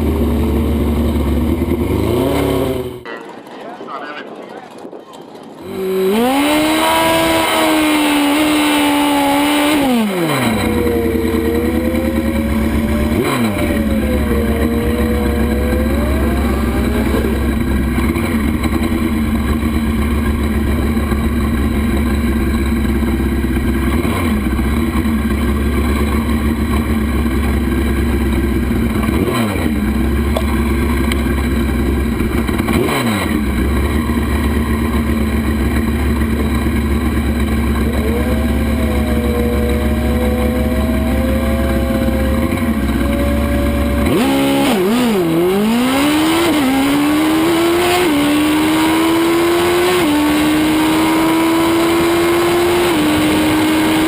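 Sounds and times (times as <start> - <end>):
motorcycle accelerating hard: 0.0 - 3.1, 5.6 - 54.0.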